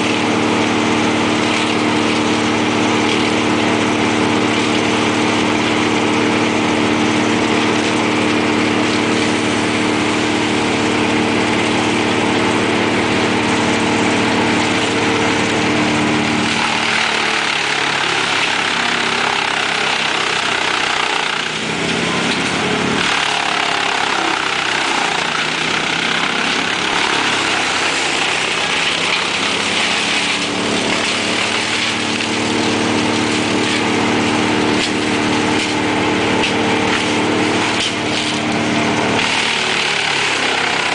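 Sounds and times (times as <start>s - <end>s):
wood chipper engine running: 0.0s - 40.9s.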